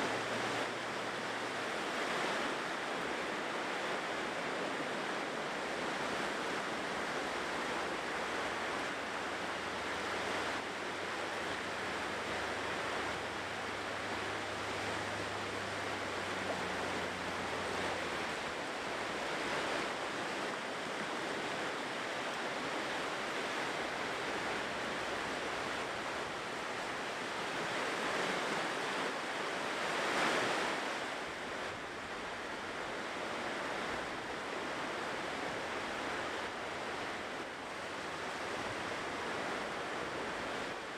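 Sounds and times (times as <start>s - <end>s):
ocean surf washing onto shore: 0.0s - 40.9s
wave breaking: 0.0s - 40.9s.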